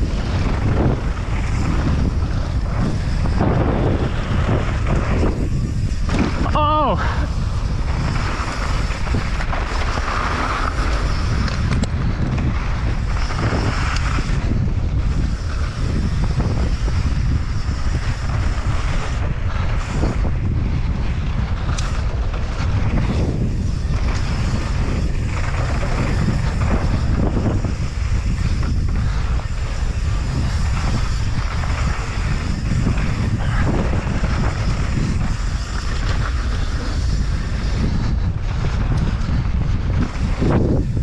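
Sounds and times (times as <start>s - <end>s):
tyres rolling over loose dirt: 0.0s - 41.0s
wind rushing over microphone: 0.0s - 41.0s.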